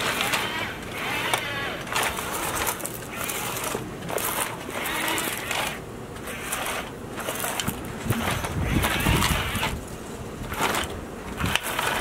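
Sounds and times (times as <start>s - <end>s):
toy gear motors whirring: 0.0s - 9.8s, 10.4s - 12.0s.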